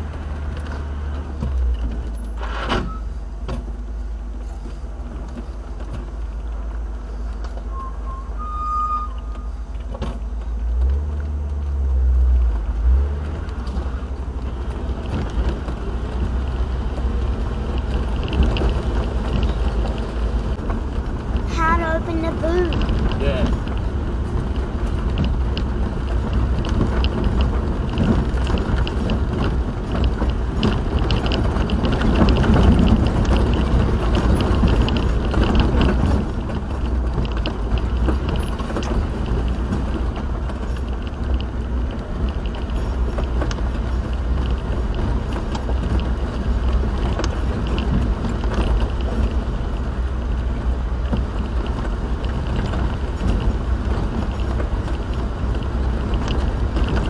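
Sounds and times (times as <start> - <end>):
car engine and road rumble: 0.0 - 57.0
light clicks and rattles: 9.7 - 57.0.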